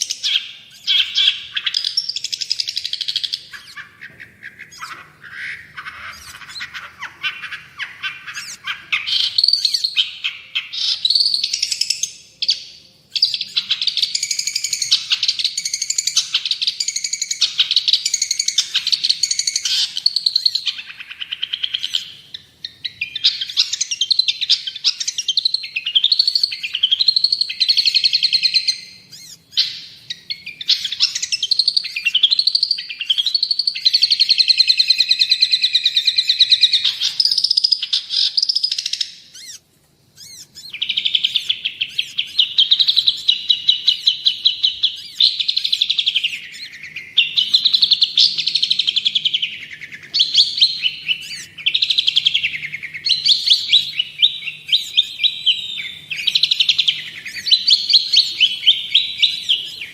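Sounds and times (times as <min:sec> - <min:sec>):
bird singing trills and whistles: 0:00.0 - 0:39.6, 0:40.2 - 0:59.9.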